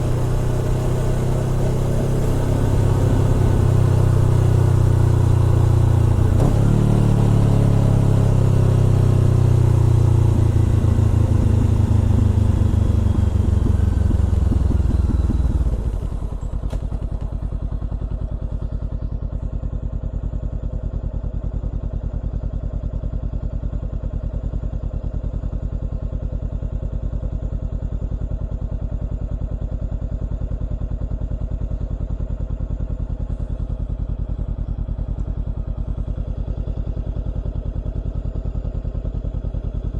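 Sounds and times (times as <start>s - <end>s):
motorcycle engine slowing to idle: 0.0s - 39.9s.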